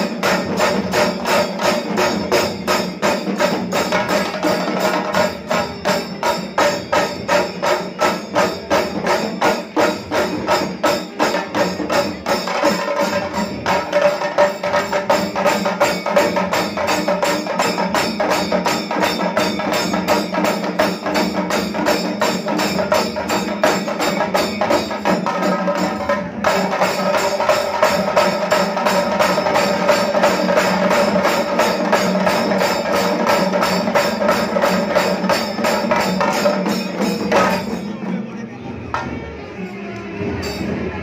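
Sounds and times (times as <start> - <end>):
drummers beating rapid rhythm: 0.0 - 37.9.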